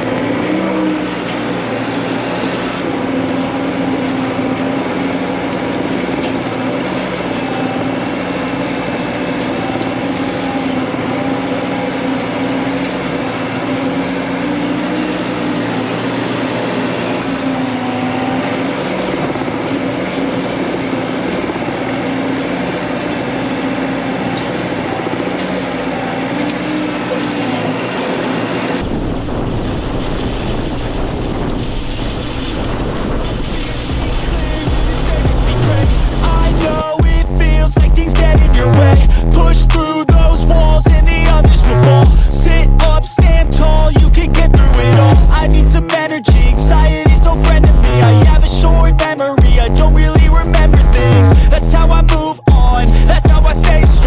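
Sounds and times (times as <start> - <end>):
metallic rattle of dragged harrow: 0.0 - 54.0
track loader engine running: 0.0 - 54.0.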